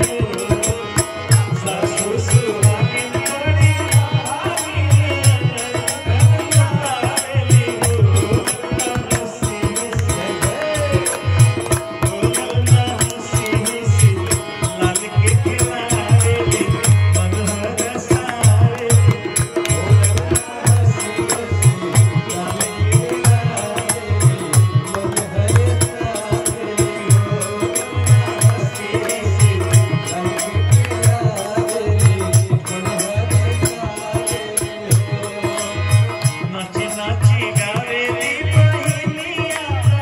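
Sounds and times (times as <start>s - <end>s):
harmonium: 0.0s - 40.0s
rattling jingling percussion: 0.0s - 40.0s.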